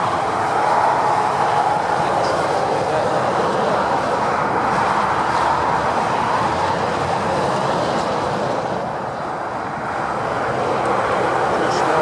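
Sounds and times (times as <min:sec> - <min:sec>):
fast motorway traffic: 0:00.0 - 0:12.0.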